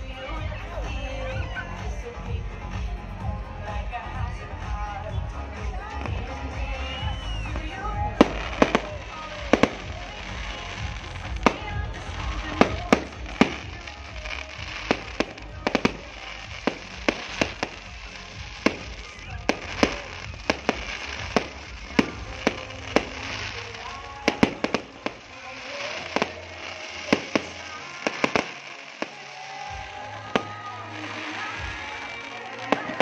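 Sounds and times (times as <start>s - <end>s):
background music: 0.0s - 33.0s
fireworks bangs and pops: 1.8s - 33.0s.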